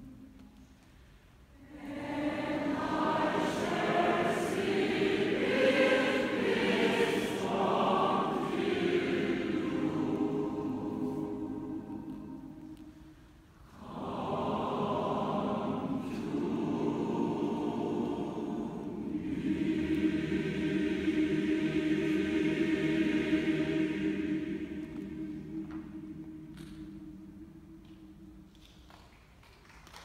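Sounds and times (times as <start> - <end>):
mixed choir singing: 1.6 - 28.5.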